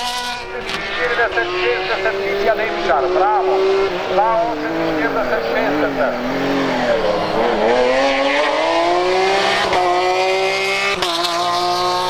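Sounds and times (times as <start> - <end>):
race car engine accelerating: 0.0 - 12.0.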